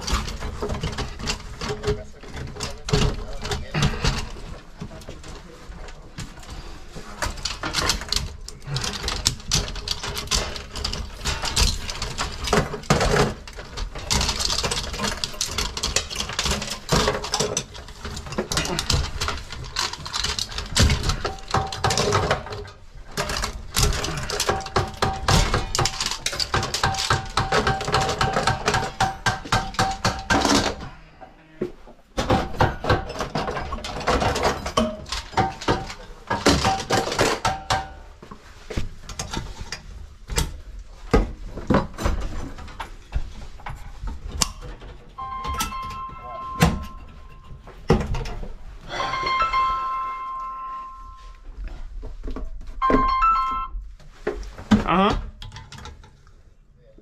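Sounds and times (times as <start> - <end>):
circuit breakers clicking and rattling: 0.0 - 30.9, 32.2 - 51.4, 54.3 - 56.3.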